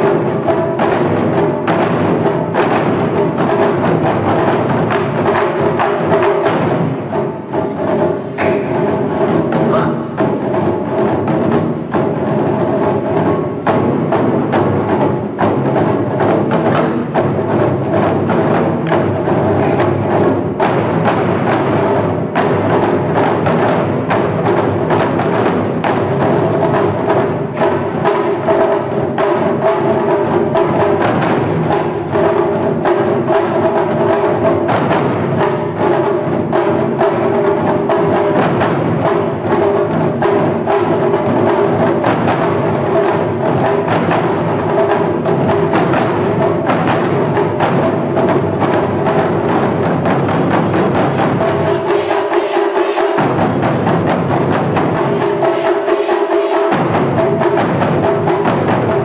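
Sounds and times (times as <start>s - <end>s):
drum ensemble playing rapid strokes: 0.0s - 59.0s.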